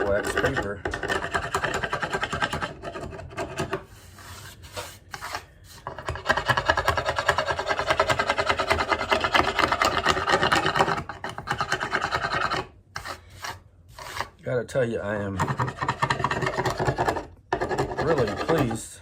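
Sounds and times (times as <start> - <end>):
scraper rasping on wood: 0.0 - 14.4, 15.3 - 18.9.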